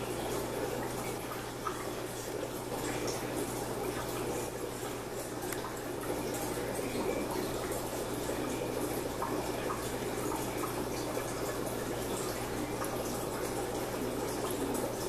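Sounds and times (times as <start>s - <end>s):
aquarium water bubbling: 0.0s - 15.0s.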